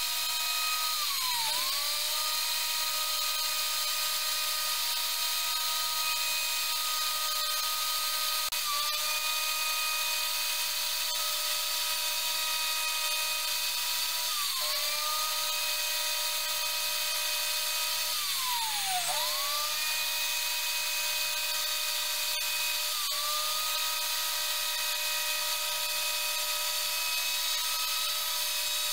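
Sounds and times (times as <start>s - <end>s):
electric router whining: 0.0s - 28.9s.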